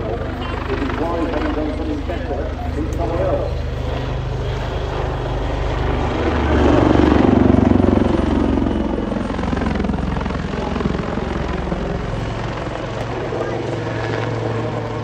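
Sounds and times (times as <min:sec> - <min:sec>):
helicopter rotor beating: 0:00.0 - 0:15.0.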